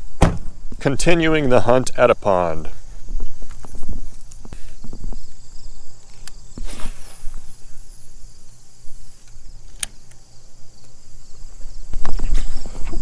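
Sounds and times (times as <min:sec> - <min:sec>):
high insect buzz: 0:00.0 - 0:13.0.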